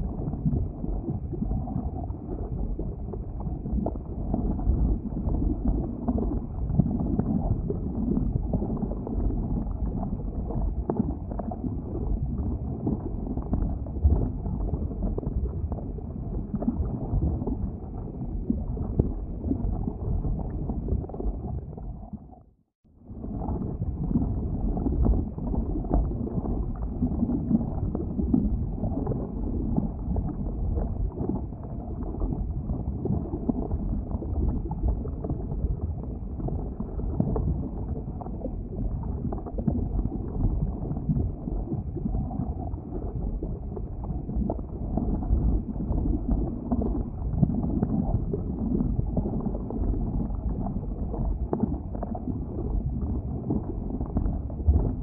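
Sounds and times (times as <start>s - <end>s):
lava vent low rumble: 0.0s - 55.0s.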